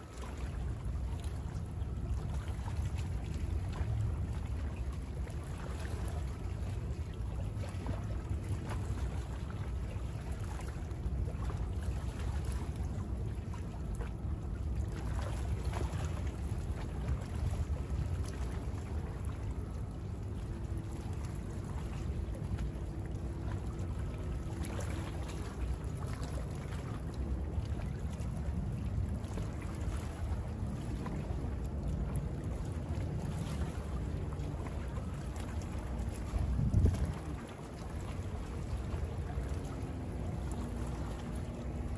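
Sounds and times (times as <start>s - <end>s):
faint boat motor hum: 0.0s - 41.9s
low steady rumble: 0.0s - 41.9s
waves lapping at shoreline: 0.0s - 41.9s.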